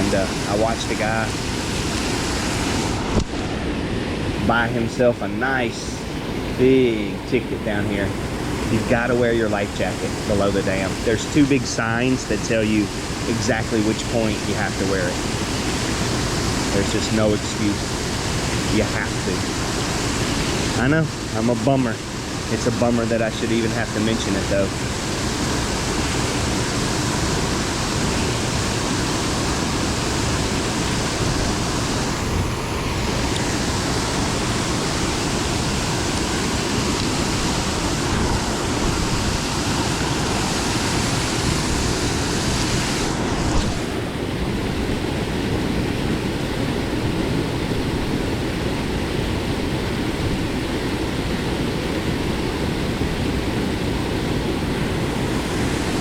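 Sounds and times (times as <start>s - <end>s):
rushing water at a dam: 0.0s - 56.0s.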